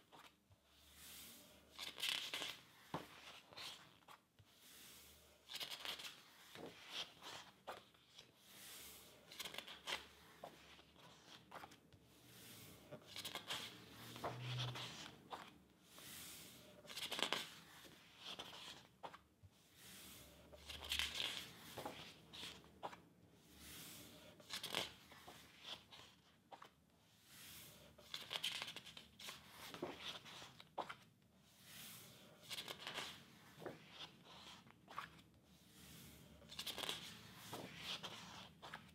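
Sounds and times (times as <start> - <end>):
book pages turning: 0.0 - 0.8, 1.4 - 4.2, 5.2 - 11.8, 12.4 - 19.2, 19.8 - 23.0, 23.6 - 26.8, 27.7 - 31.1, 31.9 - 35.2, 36.0 - 38.9.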